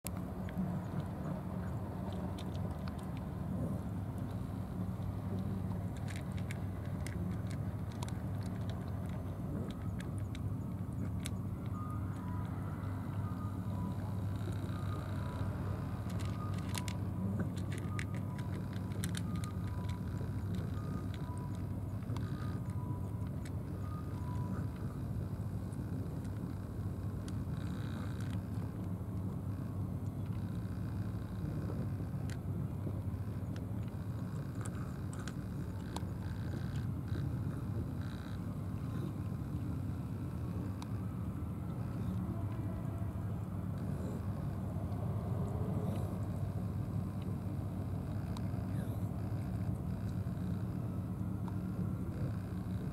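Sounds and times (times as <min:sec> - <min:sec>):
distant road traffic rumble: 0:00.0 - 0:52.9
cat chewing and licking food: 0:00.1 - 0:52.9.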